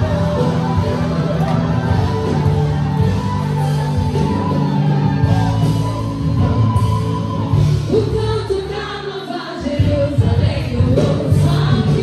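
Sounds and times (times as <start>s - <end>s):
gospel band music: 0.0s - 12.0s.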